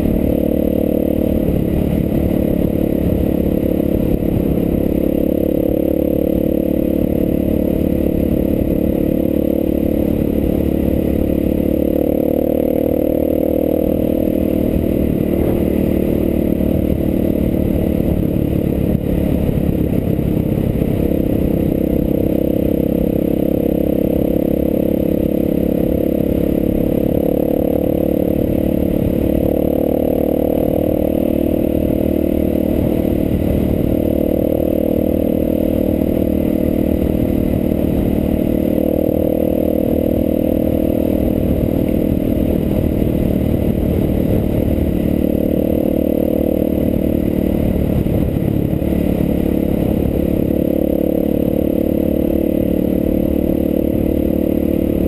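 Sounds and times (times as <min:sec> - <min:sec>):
motorcycle engine running: 0:00.0 - 0:55.0
rumble of riding over stones: 0:00.0 - 0:55.0.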